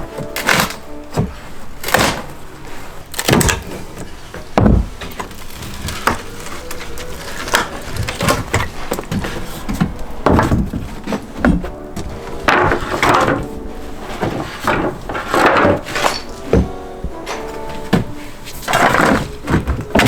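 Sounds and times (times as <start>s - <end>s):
wooden floorboards knocking: 3.3s - 20.0s.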